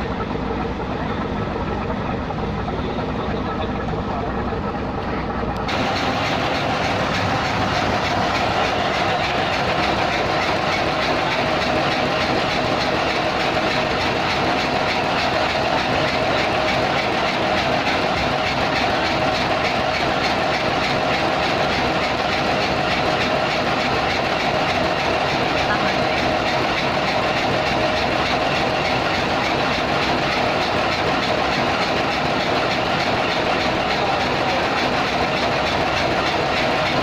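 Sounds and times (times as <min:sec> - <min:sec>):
diesel engine chugging: 0:00.0 - 0:37.0.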